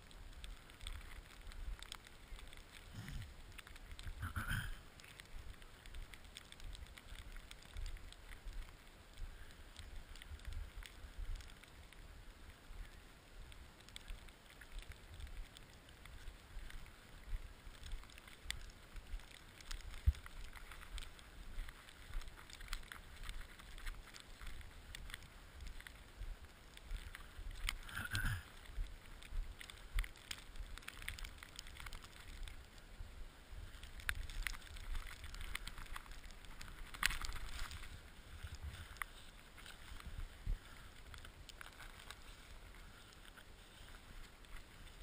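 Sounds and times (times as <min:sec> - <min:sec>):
clicks and crackles: 0:00.0 - 0:45.0.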